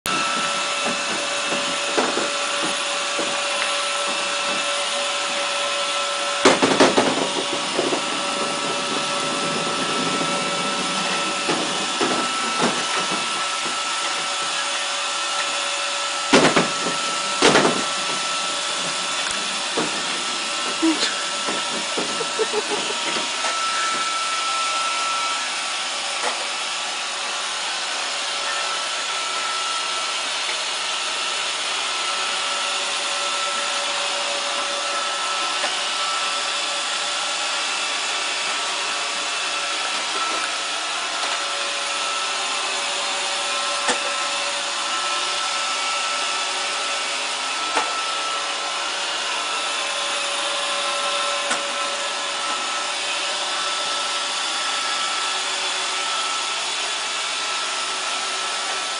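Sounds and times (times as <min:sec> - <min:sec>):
robot vacuum whirring: 0:00.1 - 0:58.9.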